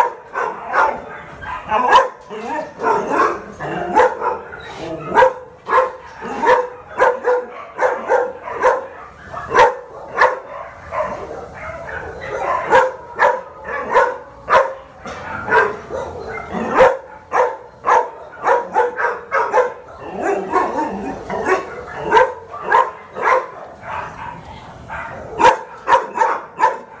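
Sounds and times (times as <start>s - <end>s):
dogs barking: 0.0s - 27.0s.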